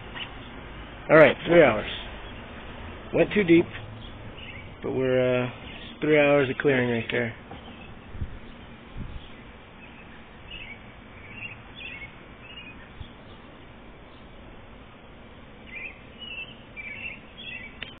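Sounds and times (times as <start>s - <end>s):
small birds chirping: 0.0s - 18.0s
steady background hiss: 0.0s - 18.0s.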